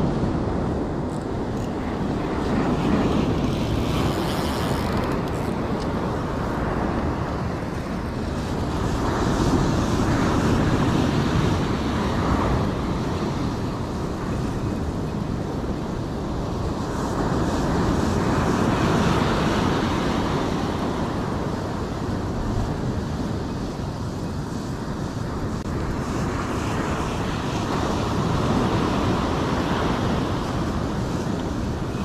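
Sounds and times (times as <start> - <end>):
sea surf breaking on shore: 0.0 - 32.0
wind buffeting microphone: 0.0 - 32.0.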